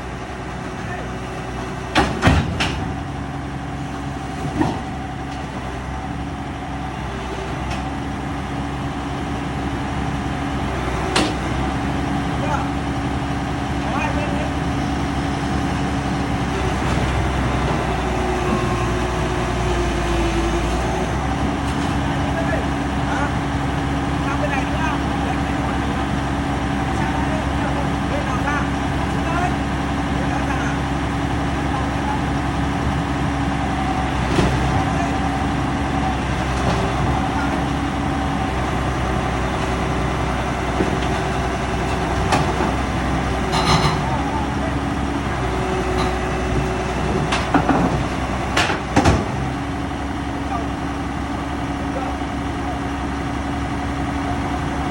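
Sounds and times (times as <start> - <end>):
diesel engine rumbling: 0.0 - 54.9.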